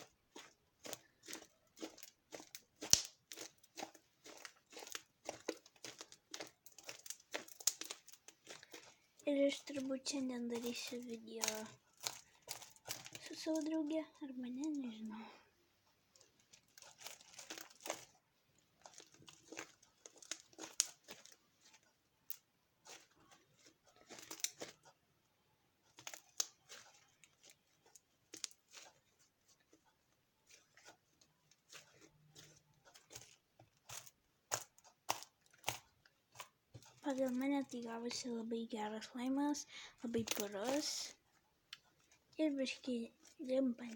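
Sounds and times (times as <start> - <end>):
slime squishing and crackling: 0.0 - 15.3, 16.1 - 43.9.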